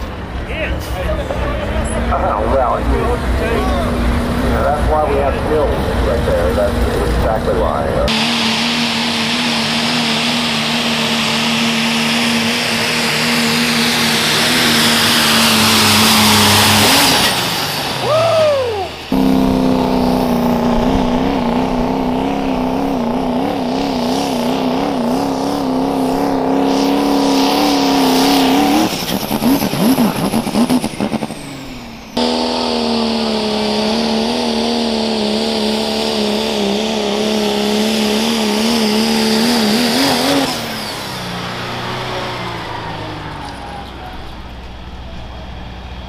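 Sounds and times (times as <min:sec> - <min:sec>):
diesel engine at high revs: 0:00.0 - 0:46.0
second diesel truck running flat out: 0:00.0 - 0:46.0.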